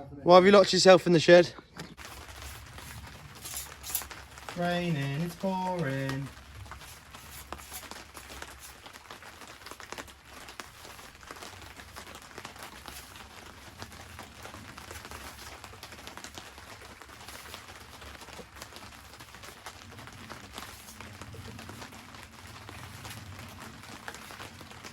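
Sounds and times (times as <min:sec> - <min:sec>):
rain pattering: 0:01.9 - 0:24.9.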